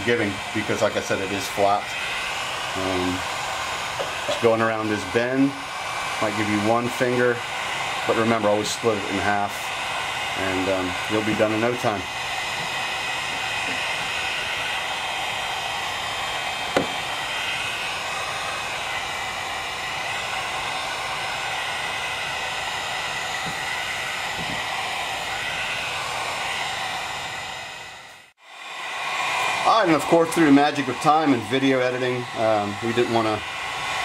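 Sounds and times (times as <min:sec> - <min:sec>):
heat gun blowing: 0:00.0 - 0:34.0.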